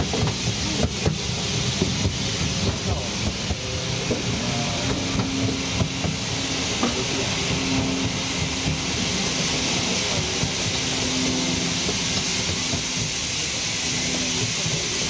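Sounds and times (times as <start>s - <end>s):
steam train hissing: 0.0s - 15.0s
train wheels clicking and knocking: 0.0s - 15.0s.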